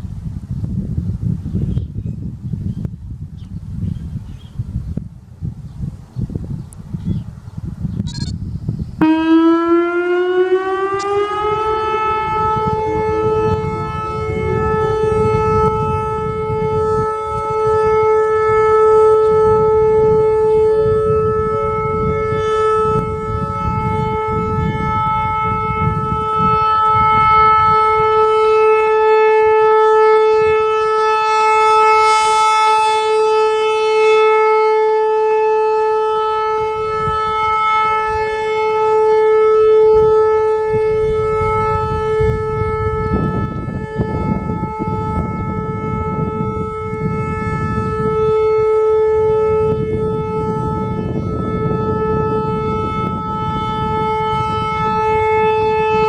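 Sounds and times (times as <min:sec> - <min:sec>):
rotating warning siren: 0:05.8 - 0:56.0.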